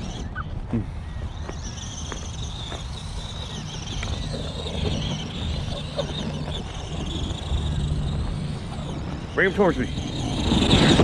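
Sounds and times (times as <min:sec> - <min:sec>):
low rumble: 0:00.0 - 0:11.0
toy car motor whining: 0:00.0 - 0:11.0.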